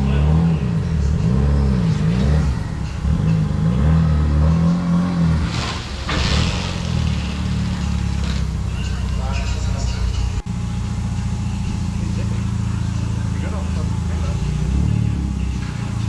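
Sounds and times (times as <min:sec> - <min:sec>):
small turbo engine revving: 0:00.0 - 0:16.0.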